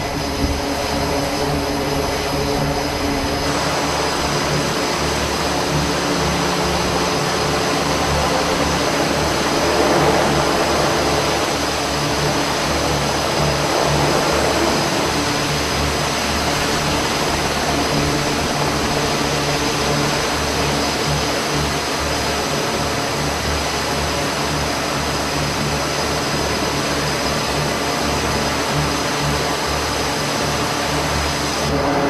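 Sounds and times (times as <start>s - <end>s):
aircraft engines roaring: 0.0s - 32.0s.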